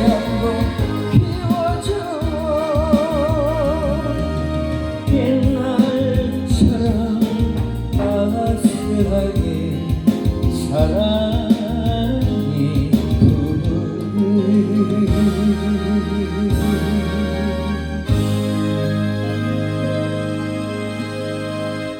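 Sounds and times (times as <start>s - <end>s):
instrumental backing: 0.0s - 21.9s
person singing with vibrato: 0.0s - 21.9s.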